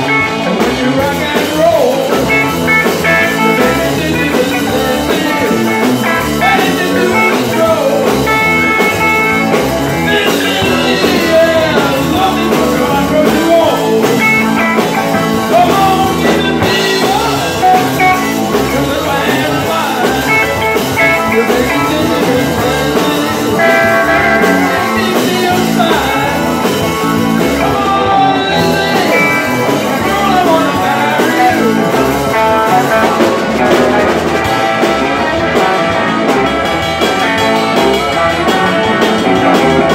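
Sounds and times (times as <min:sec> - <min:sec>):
electric bass: 0:00.0 - 0:39.9
electric guitar: 0:00.0 - 0:39.9
rock band playing: 0:00.0 - 0:39.9.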